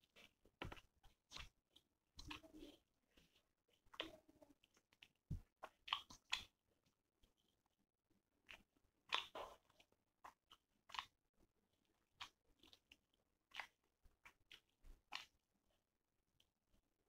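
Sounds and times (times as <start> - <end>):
chewing and lip-smacking: 0.0 - 6.6, 8.4 - 15.8.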